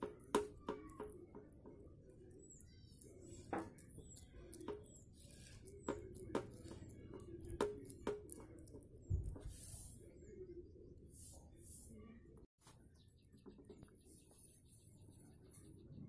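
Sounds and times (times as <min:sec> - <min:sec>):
faint high chirps: 0:00.0 - 0:16.0.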